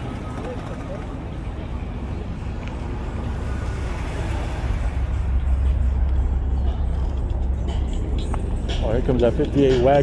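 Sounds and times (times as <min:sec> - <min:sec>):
passing car engine rumble: 0:00.0 - 0:10.0.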